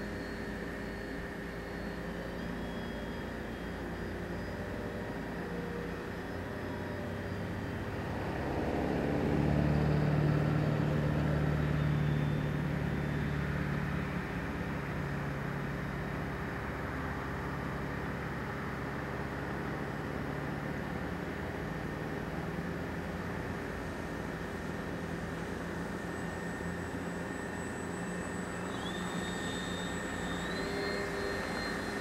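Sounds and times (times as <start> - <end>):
model plane motor humming: 0.0 - 32.0.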